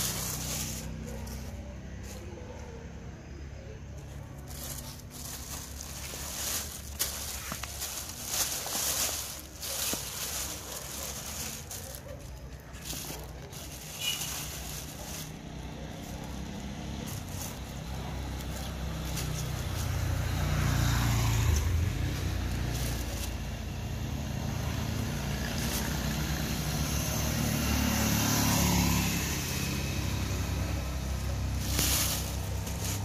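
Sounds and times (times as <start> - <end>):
plastic bag crackling: 0.0 - 2.2, 4.0 - 33.0
road traffic rumble: 0.0 - 33.0.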